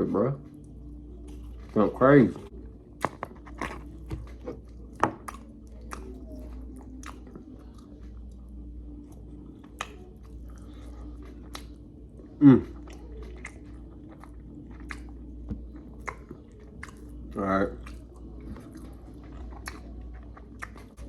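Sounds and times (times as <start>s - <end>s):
close-up chewing: 0.0s - 21.0s
low steady hum: 0.0s - 21.0s.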